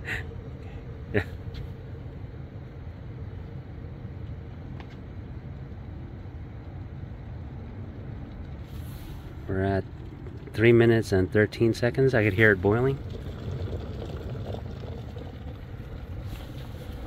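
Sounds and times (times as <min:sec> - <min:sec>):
electric kettle rumbling and hissing: 0:00.0 - 0:17.0.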